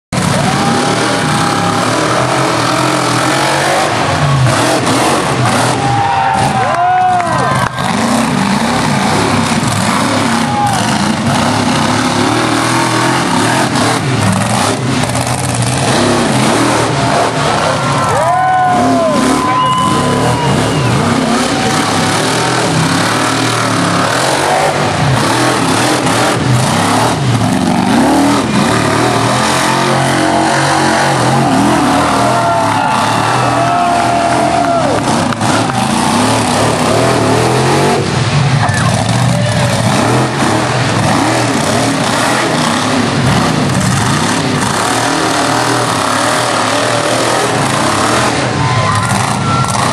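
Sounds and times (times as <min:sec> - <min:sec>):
monster truck engines revving: 0:00.0 - 0:49.9
loud constant din: 0:00.1 - 0:49.9.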